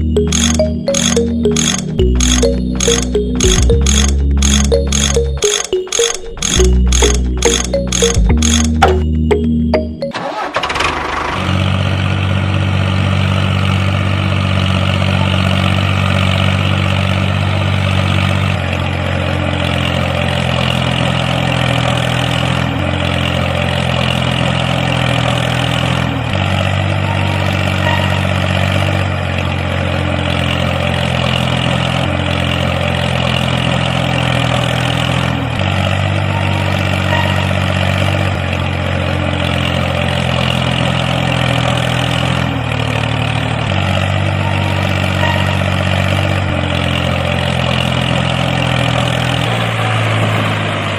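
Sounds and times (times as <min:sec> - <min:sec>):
small tractor engine running: 0:00.0 - 0:50.9.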